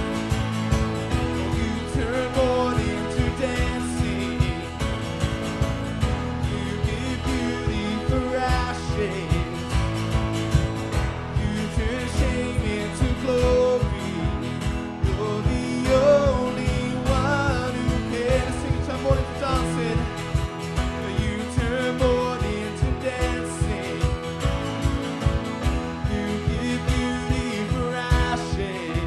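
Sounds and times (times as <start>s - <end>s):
worship band song: 0.0s - 29.0s.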